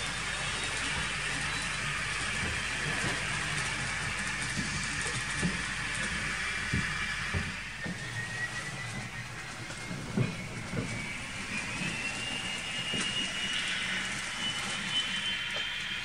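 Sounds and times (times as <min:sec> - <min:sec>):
electric motor whine: 0:00.0 - 0:16.0
hiss of wheels on rail: 0:00.0 - 0:16.0.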